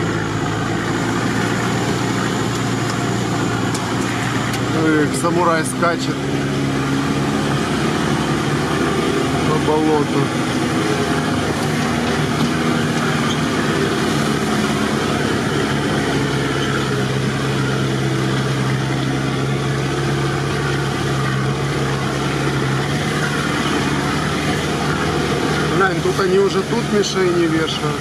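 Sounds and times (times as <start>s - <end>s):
off-road engine droning: 0.0s - 28.0s.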